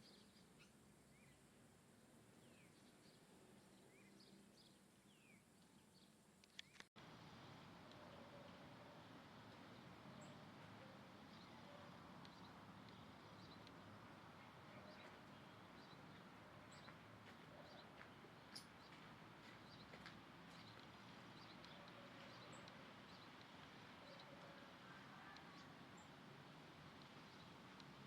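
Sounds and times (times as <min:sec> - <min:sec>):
small birds chirping: 0:00.0 - 0:01.5, 0:02.4 - 0:06.9, 0:07.5 - 0:28.0
low steady hiss: 0:00.0 - 0:28.0.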